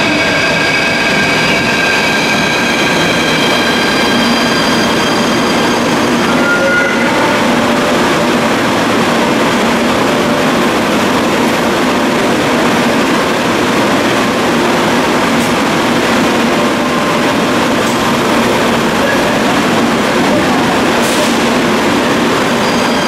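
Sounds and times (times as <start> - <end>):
train equipment hiss and hum: 0.0 - 23.0.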